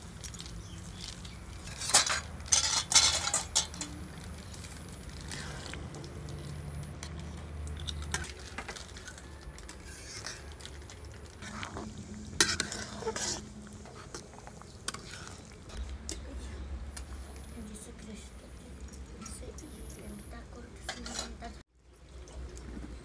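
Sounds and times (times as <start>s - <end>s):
ladle stirring curry: 0.7s - 19.5s.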